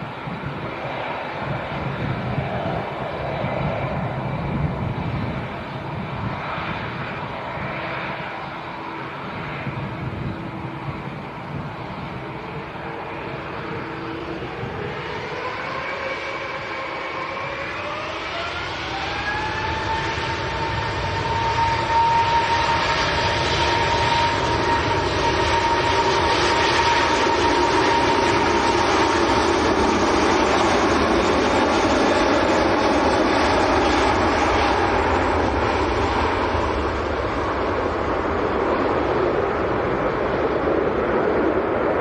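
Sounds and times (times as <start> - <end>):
jet engine roar: 0.0 - 42.0
jet engine whine: 0.0 - 42.0.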